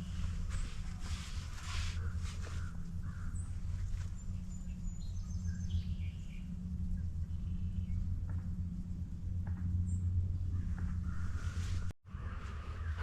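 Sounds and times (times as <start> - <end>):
songbirds chirping and whistling: 0.0 - 13.0
steady low hum: 0.0 - 13.0.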